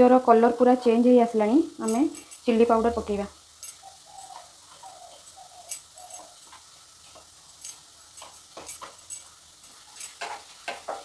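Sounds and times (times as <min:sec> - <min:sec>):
onions and spices sizzling in oil: 0:00.0 - 0:11.0.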